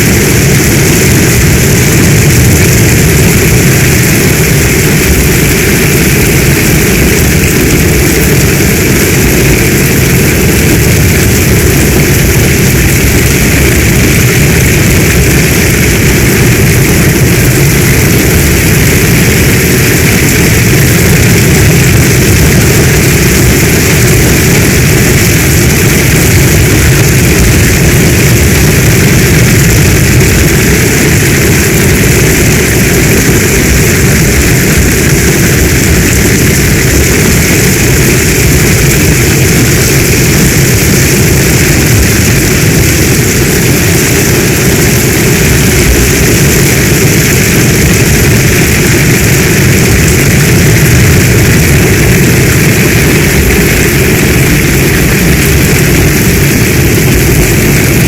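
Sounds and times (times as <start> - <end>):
deep rumble: 0.0 - 58.0
heavy rain rushing: 0.0 - 58.0.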